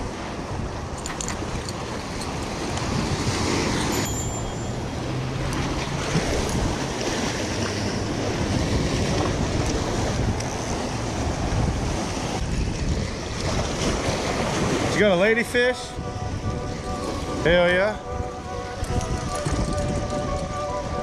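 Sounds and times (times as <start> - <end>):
surf washing against rocks: 0.0 - 18.0
wind buffeting microphone: 0.0 - 21.0.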